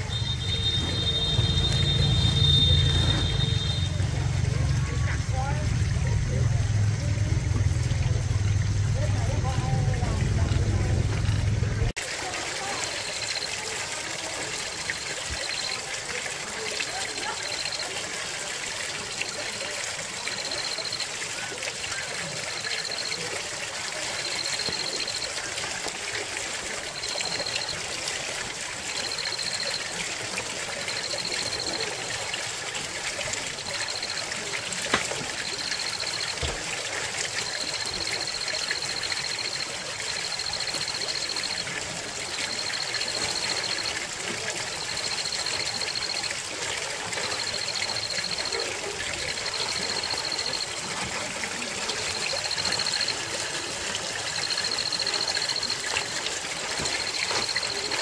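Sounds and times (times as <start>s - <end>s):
water running and trickling: 0.0s - 58.0s.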